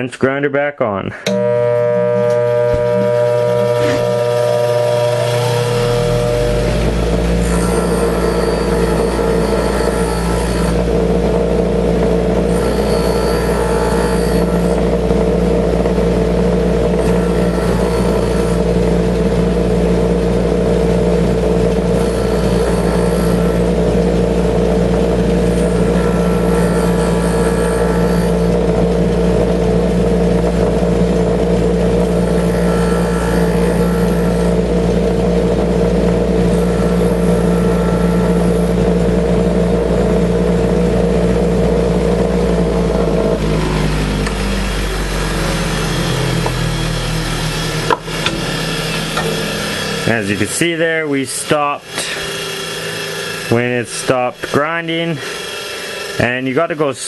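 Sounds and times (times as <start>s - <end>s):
bench grinder motor humming: 1.3s - 57.0s
drill bit grinding rasp: 1.3s - 57.0s.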